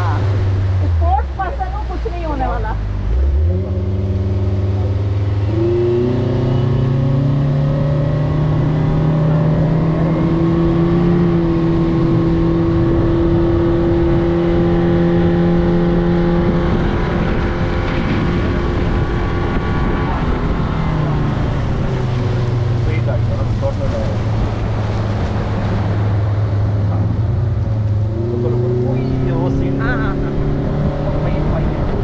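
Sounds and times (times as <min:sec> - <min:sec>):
outboard motor speedboat: 0:00.0 - 0:32.0.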